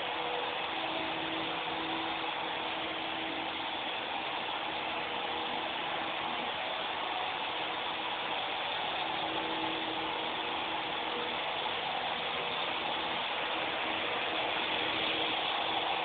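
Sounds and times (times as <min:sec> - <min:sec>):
toy helicopter rotors whirring: 0:00.0 - 0:16.0.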